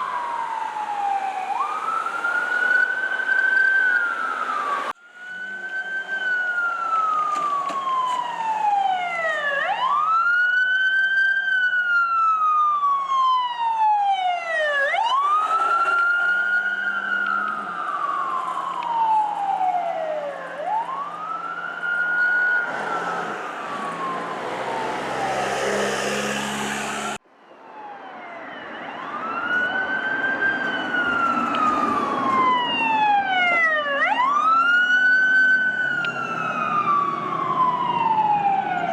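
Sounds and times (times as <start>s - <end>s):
emergency siren wailing: 0.0s - 38.9s.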